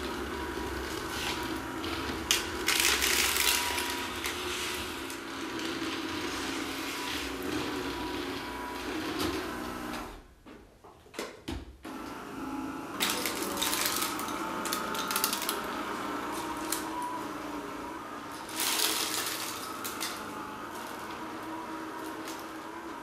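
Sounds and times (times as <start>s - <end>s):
electric broom brushes whirring: 0.0s - 10.2s, 11.9s - 23.0s.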